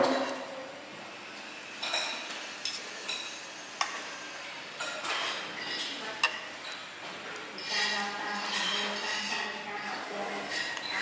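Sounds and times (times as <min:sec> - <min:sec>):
utensils clinking against dishes: 0:00.0 - 0:00.5, 0:01.8 - 0:04.1, 0:04.8 - 0:11.0.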